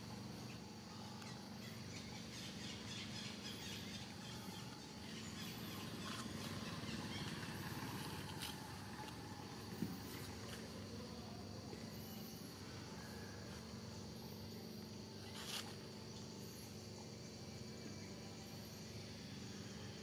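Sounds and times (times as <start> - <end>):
continuous hiss: 0.0 - 20.0
steady low hum: 0.0 - 20.0.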